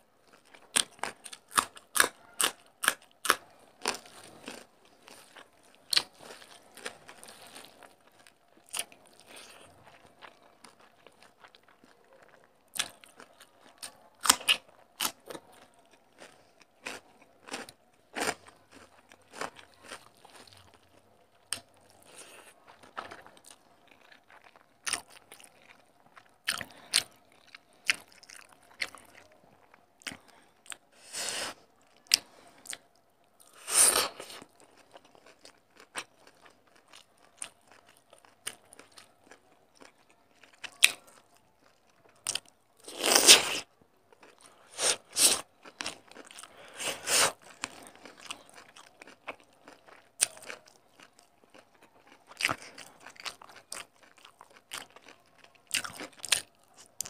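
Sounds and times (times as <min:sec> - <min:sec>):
person chewing food: 0:00.2 - 0:57.0.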